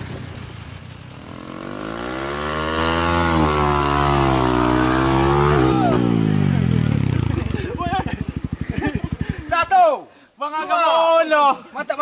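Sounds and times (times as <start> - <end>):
motorcycle engine approaching: 0.0 - 9.9.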